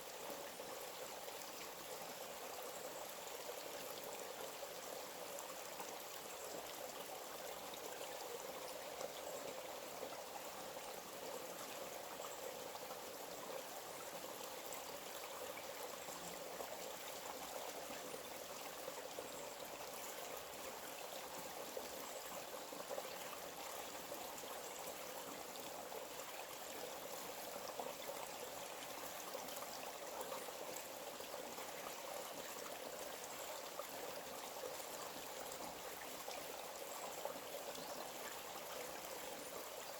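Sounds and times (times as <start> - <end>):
forest stream trickling: 0.0 - 39.9.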